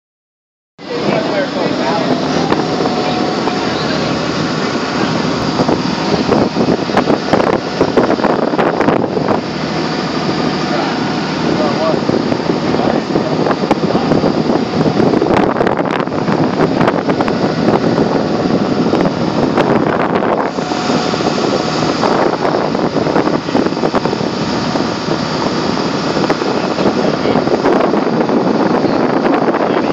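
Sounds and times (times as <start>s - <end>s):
motorboat running: 0.8s - 29.9s
wind noise on microphone: 0.8s - 29.9s.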